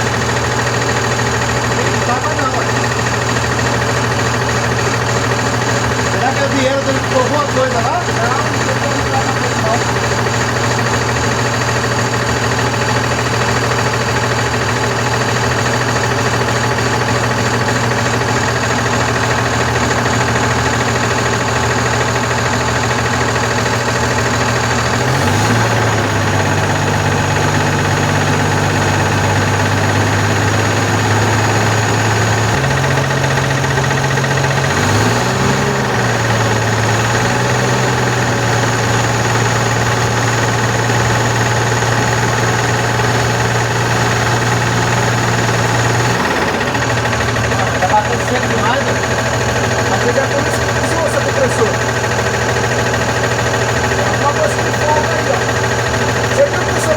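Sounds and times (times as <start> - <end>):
diesel engine idling with knocking: 0.0 - 56.9.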